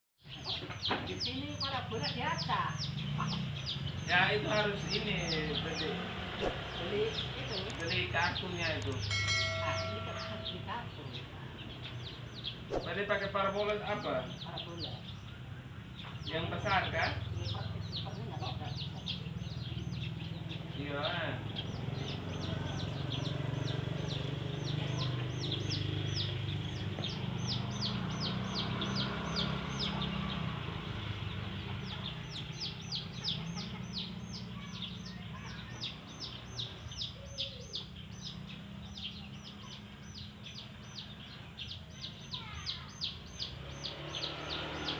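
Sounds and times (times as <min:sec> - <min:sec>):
chicks peeping: 0:00.3 - 0:44.9.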